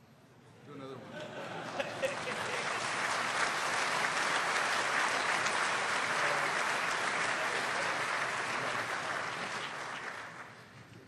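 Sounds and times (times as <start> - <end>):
audience applauding: 1.6 - 10.8.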